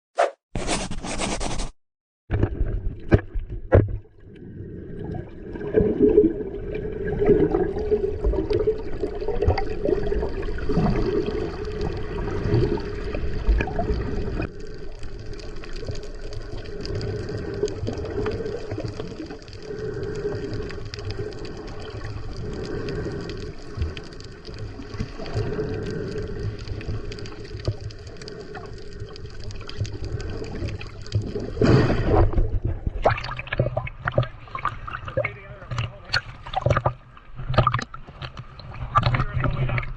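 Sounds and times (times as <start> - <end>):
muffled underwater swash: 2.3 - 39.9.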